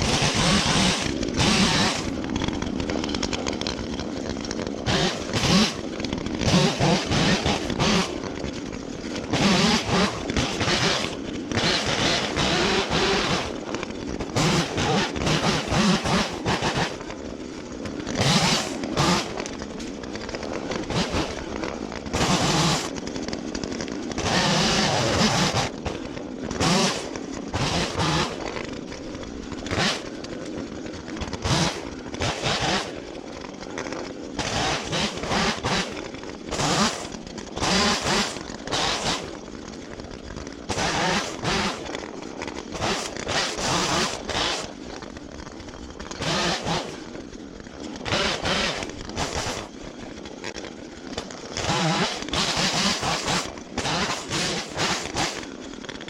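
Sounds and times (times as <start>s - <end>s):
chainsaw revving: 0.0s - 39.6s, 40.4s - 45.2s, 45.9s - 56.0s.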